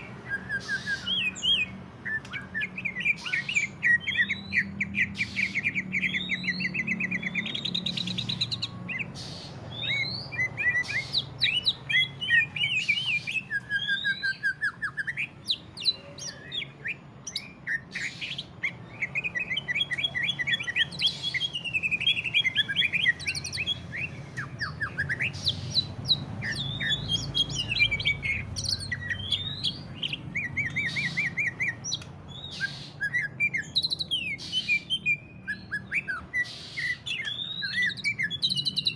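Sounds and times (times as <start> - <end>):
bird singing trills and chirps: 0.0 - 38.9.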